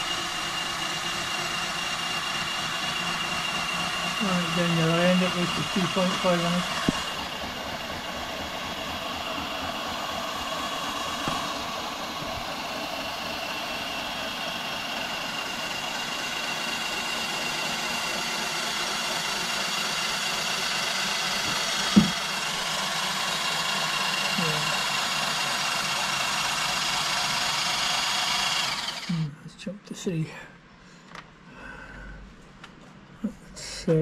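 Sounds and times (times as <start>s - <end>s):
mechanical whirring hum: 0.0s - 34.0s.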